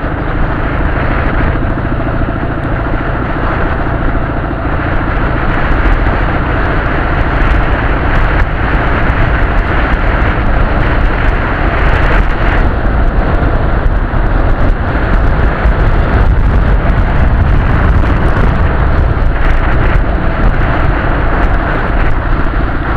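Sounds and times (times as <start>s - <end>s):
motorcycle engine rumbling: 0.0s - 22.9s.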